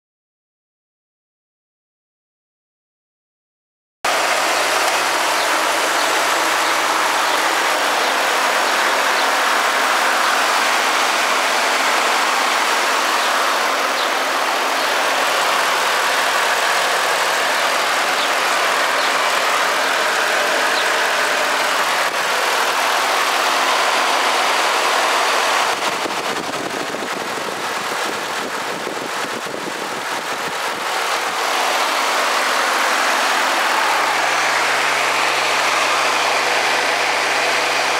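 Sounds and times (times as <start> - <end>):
truck engine idling: 4.1 - 37.9.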